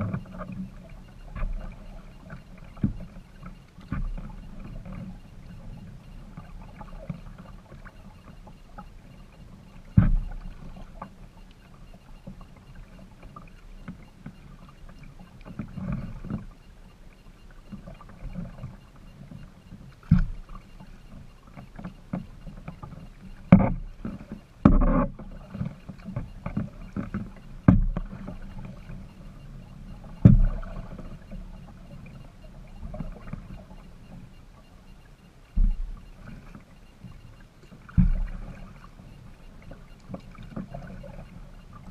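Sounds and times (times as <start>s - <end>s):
paddle in water: 0.0s - 41.9s.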